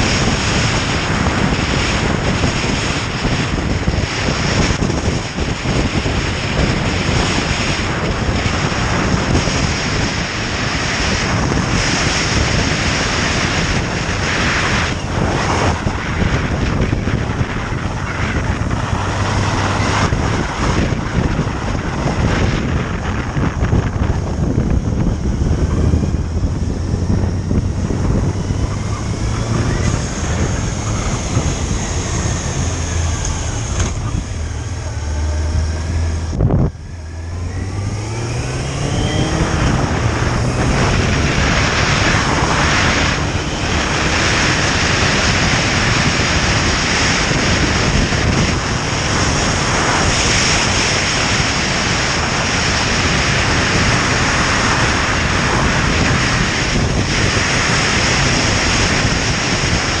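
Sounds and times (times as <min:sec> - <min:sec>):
motorcycle engine accelerating: 0:00.0 - 1:00.0
wind rush on microphone: 0:00.0 - 1:00.0.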